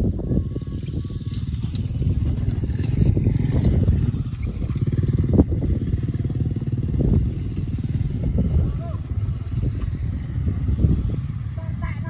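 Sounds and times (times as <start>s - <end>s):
vehicle engine throbbing: 0.0s - 12.0s.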